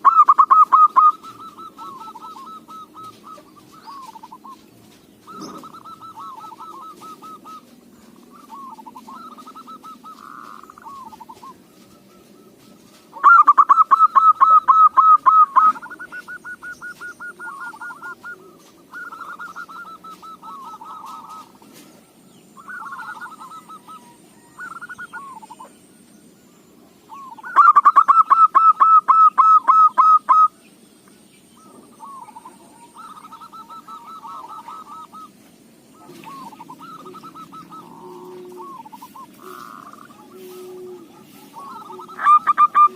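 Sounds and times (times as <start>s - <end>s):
doves cooing: 0.0s - 30.7s, 31.4s - 42.9s.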